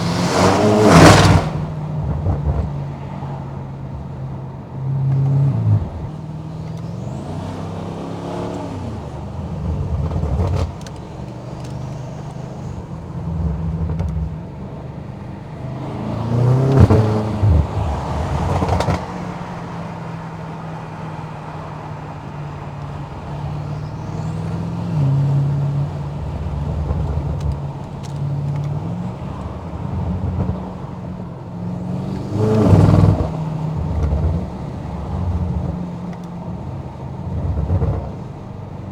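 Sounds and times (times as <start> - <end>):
car engine revving through gears: 0.0 - 38.9.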